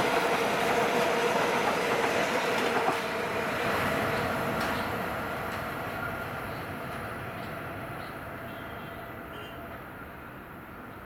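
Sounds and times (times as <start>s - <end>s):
train wheels running on rails: 0.0s - 10.1s.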